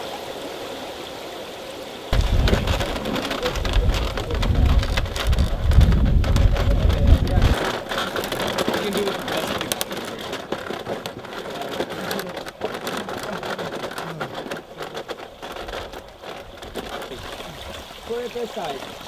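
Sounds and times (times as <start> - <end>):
rope being handled: 2.2 - 17.7.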